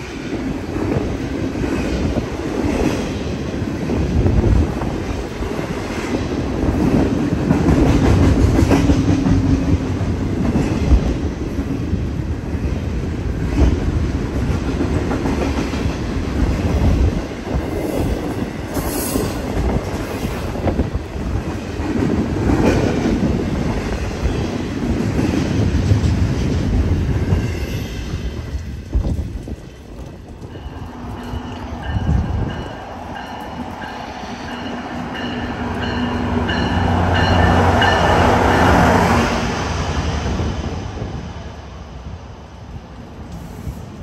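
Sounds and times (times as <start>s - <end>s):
freight train wheels rumbling: 0.0s - 44.0s.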